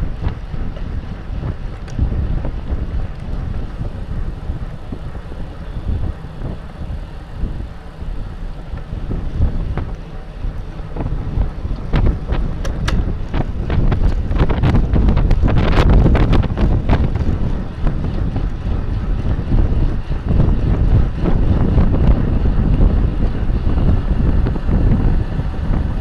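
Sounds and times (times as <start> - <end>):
bike clicks and rattles: 0.0 - 26.0
wind buffeting microphone: 0.0 - 26.0.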